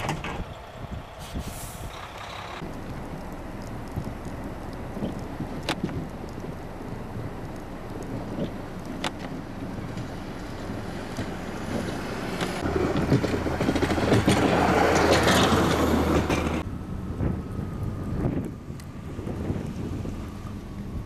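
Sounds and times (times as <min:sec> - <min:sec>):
tyres rushing on snowy road: 0:00.0 - 0:21.0
vehicle engine hum: 0:00.0 - 0:21.0
wind on microphone: 0:00.0 - 0:21.0.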